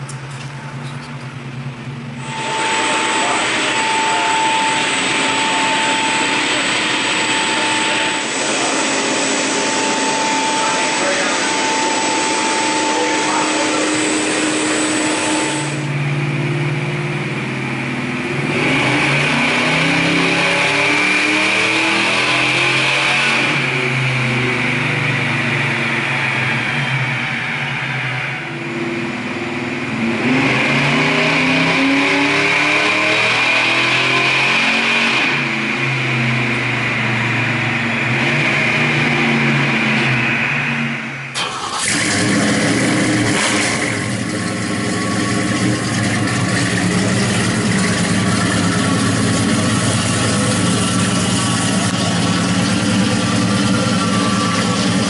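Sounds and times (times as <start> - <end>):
car engine revving under load: 0.0 - 55.0
high whine: 0.0 - 55.0.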